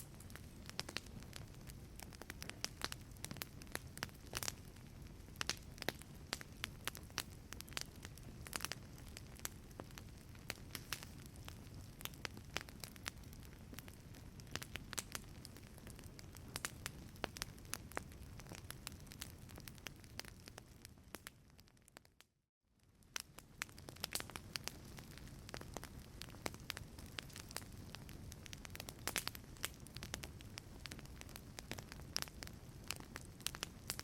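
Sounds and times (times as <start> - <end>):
low rumble of flame: 0.0 - 22.0, 22.8 - 34.0
wood fire crackling: 0.0 - 22.2, 22.8 - 34.0.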